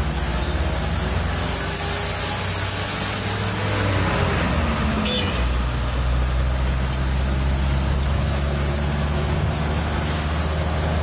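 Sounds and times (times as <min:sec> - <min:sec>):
road noise: 0:00.0 - 0:11.0
truck engine running: 0:00.0 - 0:11.0.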